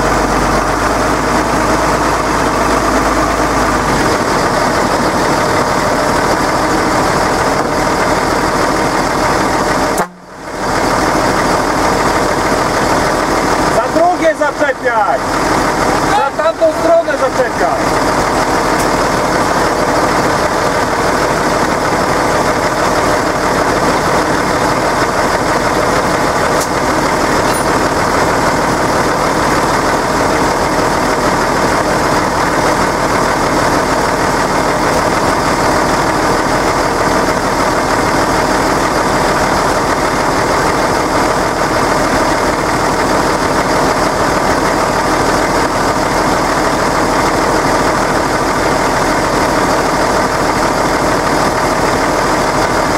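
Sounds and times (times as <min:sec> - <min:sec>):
tractor diesel engine idling: 0:00.0 - 0:52.9.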